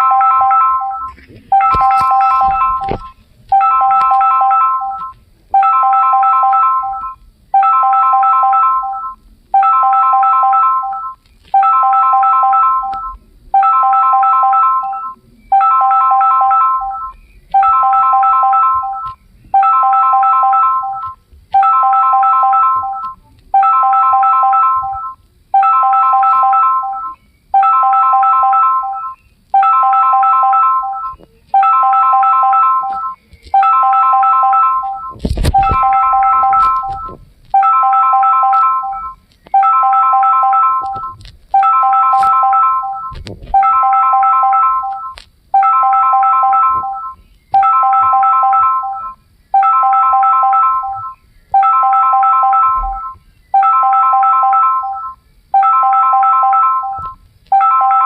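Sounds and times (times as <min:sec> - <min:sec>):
phone ringtone ringing: 0:00.0 - 0:58.0.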